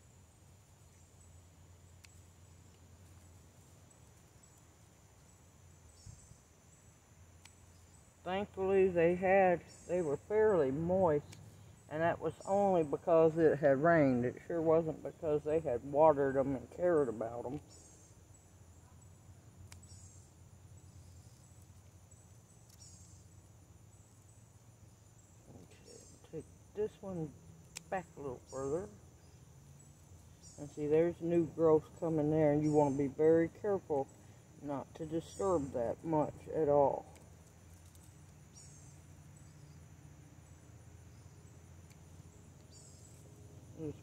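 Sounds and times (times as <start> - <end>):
insects chirping: 0.0 - 44.0.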